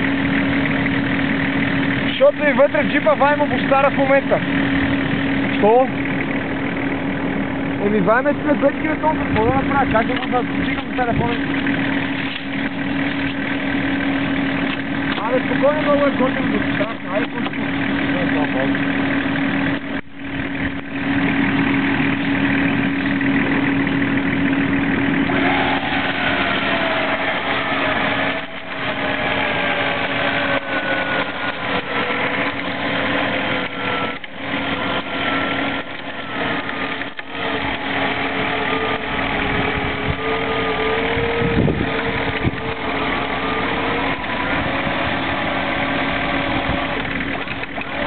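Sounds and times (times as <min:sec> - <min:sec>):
engine idling: 0:00.0 - 0:48.0
engine revving under load: 0:00.0 - 0:48.0.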